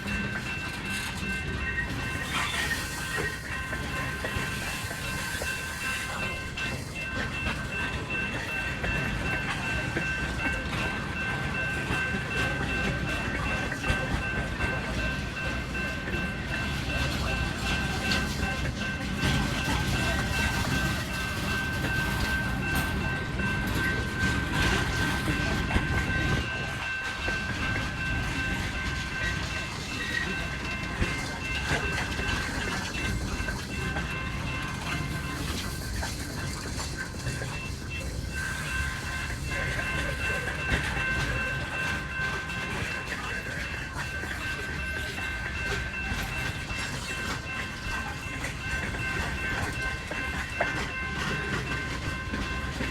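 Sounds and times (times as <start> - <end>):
freight train wheels on rails: 0.0 - 52.9.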